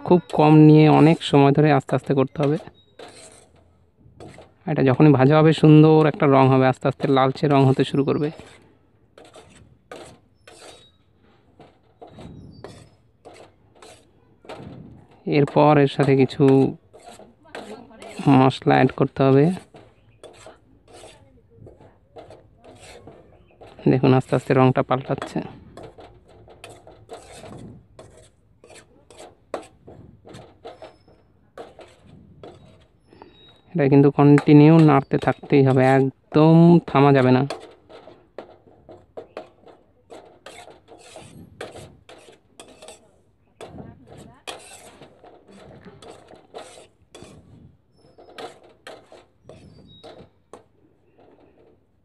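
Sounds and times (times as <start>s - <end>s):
metal spatula scraping powder: 0.0s - 52.0s.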